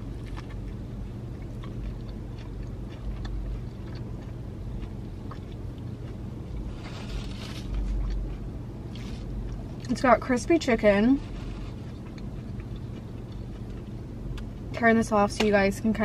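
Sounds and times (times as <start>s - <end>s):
person chewing with crunches: 0.0s - 10.0s, 11.2s - 14.7s
steady low hum: 0.0s - 16.0s.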